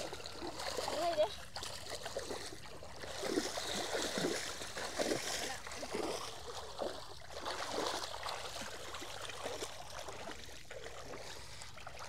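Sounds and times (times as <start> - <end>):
wading through shallow water: 0.0 - 12.0.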